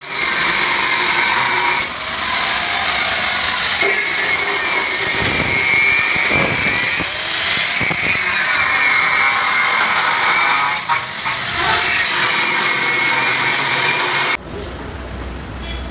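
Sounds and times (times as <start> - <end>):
power tool whining: 0.0 - 14.4.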